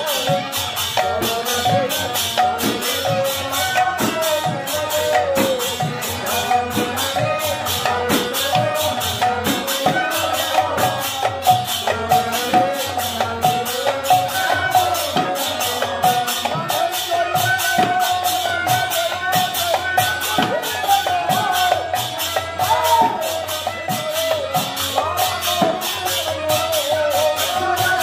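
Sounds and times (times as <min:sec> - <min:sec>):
drum strokes: 0:00.0 - 0:28.0
fast high percussion beat: 0:00.0 - 0:28.0
harmonium melody: 0:00.0 - 0:28.0.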